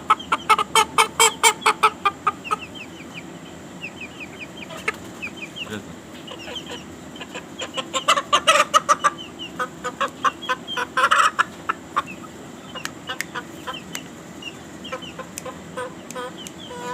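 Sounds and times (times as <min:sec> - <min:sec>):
chickens clucking: 0:00.0 - 0:16.9.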